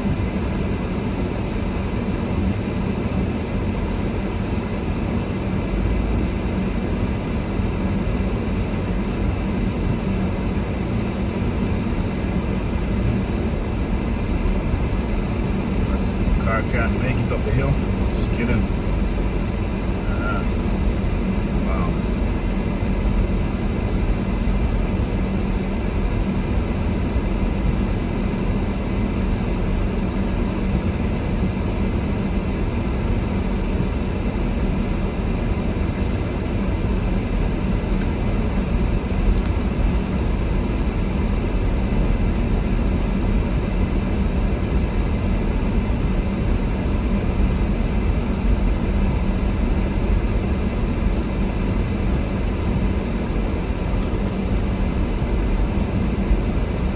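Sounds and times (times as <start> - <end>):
car cabin road and engine noise: 0.0 - 56.9.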